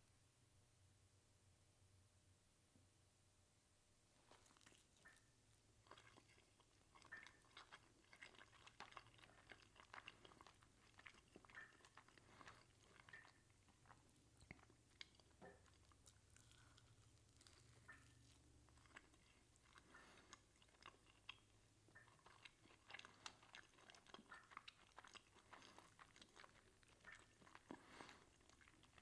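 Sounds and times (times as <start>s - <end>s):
faint chewing: 4.1s - 29.0s.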